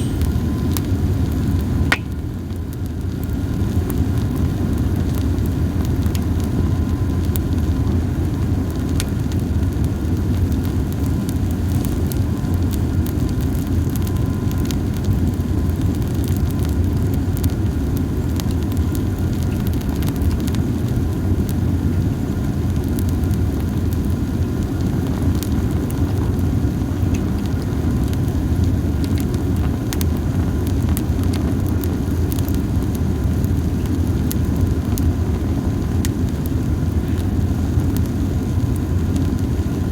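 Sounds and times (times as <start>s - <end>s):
campfire crackles: 0.0s - 39.9s.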